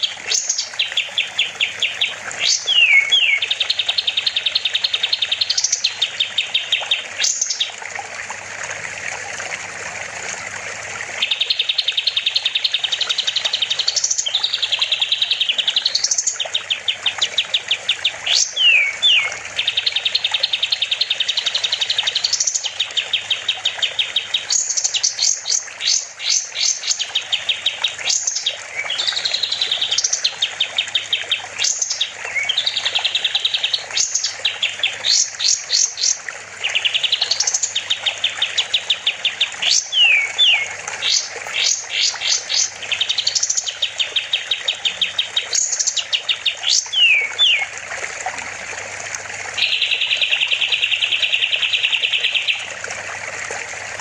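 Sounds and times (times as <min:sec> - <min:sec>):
bulbul singing fast trills: 0:00.0 - 0:07.7, 0:11.2 - 0:47.7, 0:49.6 - 0:52.7.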